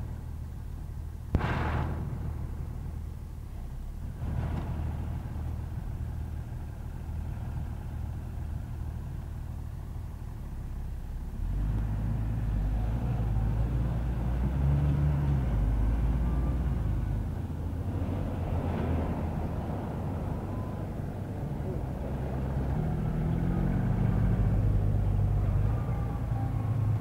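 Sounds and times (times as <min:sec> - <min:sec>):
tractor diesel engine passing: 0:01.4 - 0:27.0.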